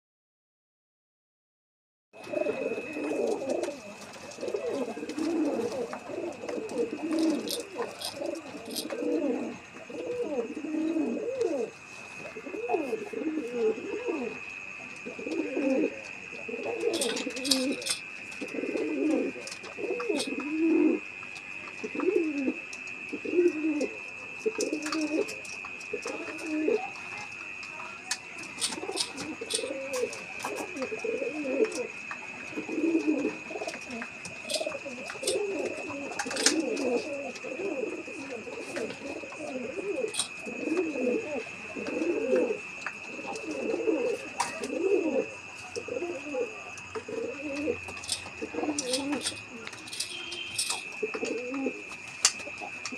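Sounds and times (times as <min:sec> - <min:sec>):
pigeons cooing: 0:02.2 - 0:52.9.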